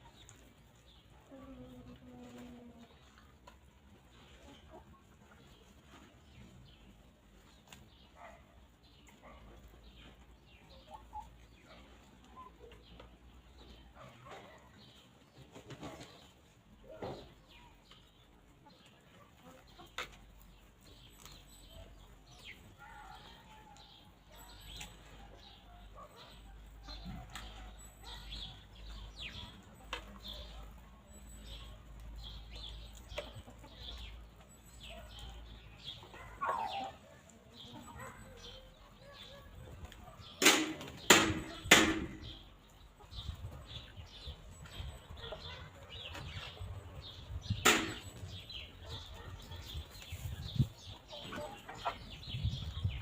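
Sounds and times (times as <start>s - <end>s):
hens calling and chirping: 0.0s - 53.0s
hens pecking: 0.0s - 53.0s.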